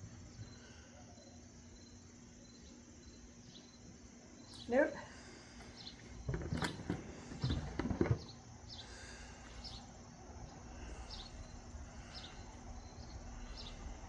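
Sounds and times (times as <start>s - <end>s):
small bird chirping: 0.3s - 4.9s, 7.2s - 14.0s.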